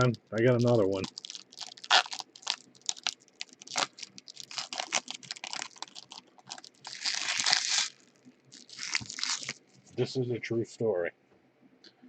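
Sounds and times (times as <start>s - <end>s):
cards rustling: 0.0s - 9.9s.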